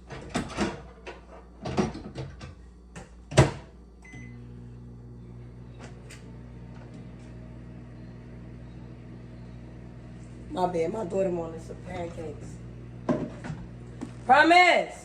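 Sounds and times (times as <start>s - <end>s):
microwave humming: 0.0s - 15.0s.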